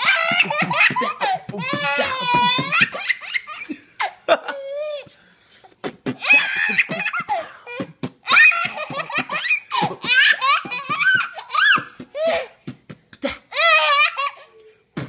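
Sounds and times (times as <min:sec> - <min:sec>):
baby laughing: 0:00.0 - 0:05.1, 0:06.1 - 0:12.5, 0:13.5 - 0:14.6.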